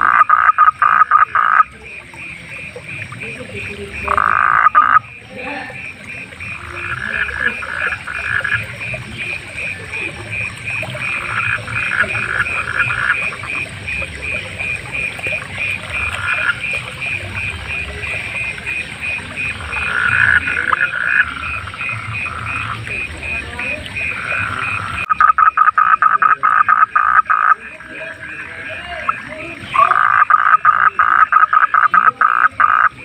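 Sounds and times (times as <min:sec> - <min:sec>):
frog steady pulsed call: 0:00.0 - 0:33.0
frogs croaking loudly: 0:00.0 - 0:33.0.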